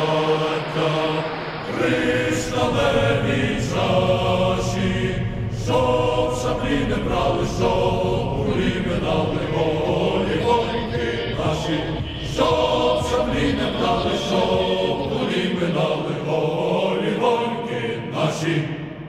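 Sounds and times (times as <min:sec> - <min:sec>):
choir chanting: 0:00.0 - 0:19.0.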